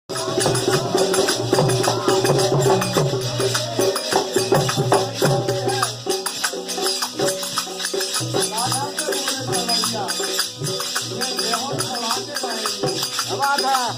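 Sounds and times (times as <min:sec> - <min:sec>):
percussion strikes: 0:00.1 - 0:13.9
folk music: 0:00.2 - 0:13.9.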